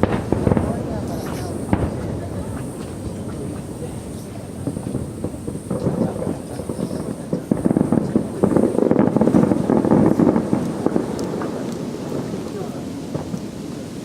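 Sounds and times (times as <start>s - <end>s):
distant fireworks bursting: 0.0s - 14.0s.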